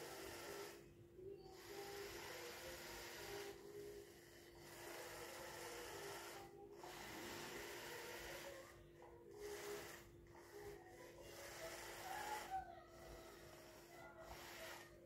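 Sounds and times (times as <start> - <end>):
faint hum: 0.0 - 15.0
toy electric motors whirring: 0.0 - 15.0.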